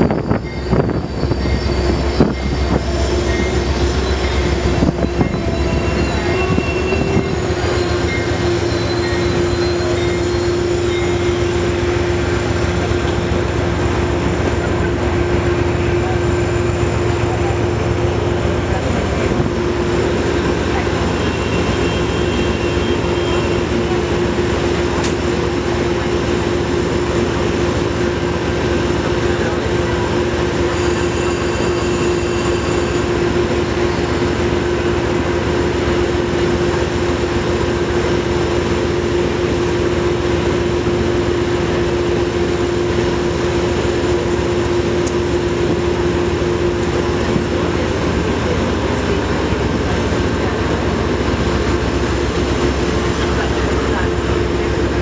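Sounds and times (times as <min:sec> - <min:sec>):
train steady loud hum: 0:00.0 - 0:55.0.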